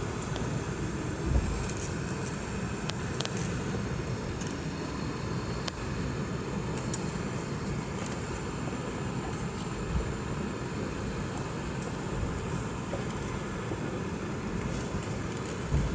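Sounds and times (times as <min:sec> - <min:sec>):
jet engine rumble and hiss: 0:00.0 - 0:15.9.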